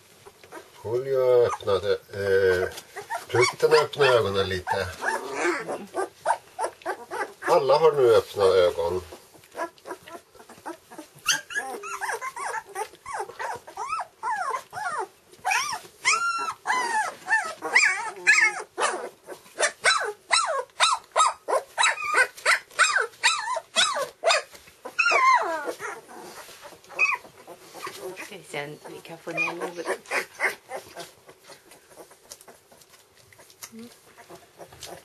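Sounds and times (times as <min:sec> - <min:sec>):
puppies crying: 0:00.1 - 0:35.0.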